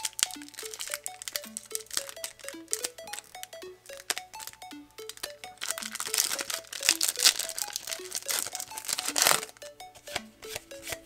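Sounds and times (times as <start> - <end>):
foil wrapper crinkling: 0.0 - 3.2, 3.9 - 9.6
light background tune: 0.0 - 11.0.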